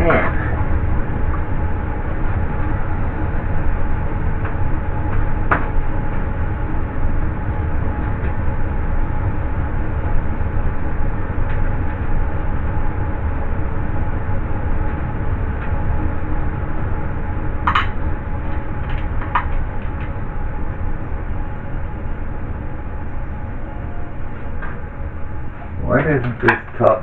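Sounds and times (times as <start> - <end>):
low rumbling with faint hum: 0.0 - 27.0.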